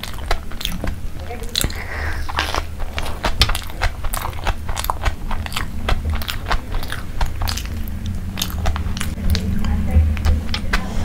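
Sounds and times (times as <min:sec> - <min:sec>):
wet mouth clicks: 0:00.0 - 0:10.9
chewing crunchy food: 0:00.0 - 0:11.0.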